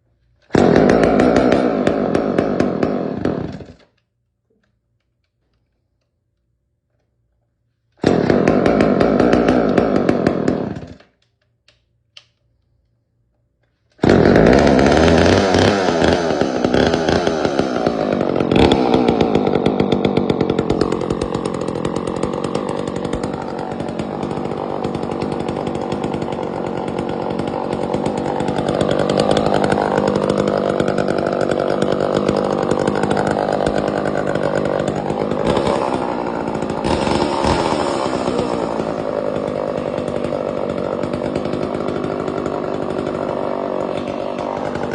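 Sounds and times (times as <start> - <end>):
chainsaw engine running: 0.5 - 3.9, 8.0 - 11.1, 14.0 - 44.9.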